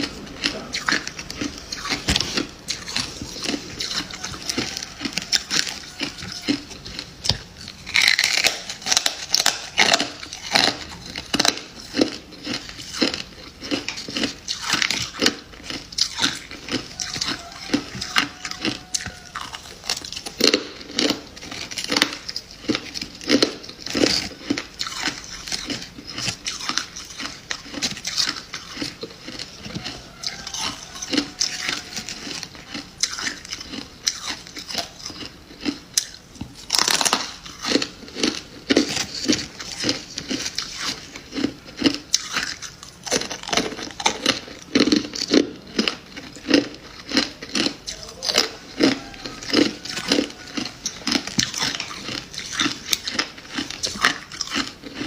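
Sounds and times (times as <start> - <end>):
frost crunching while chewed: 0.0 - 55.0.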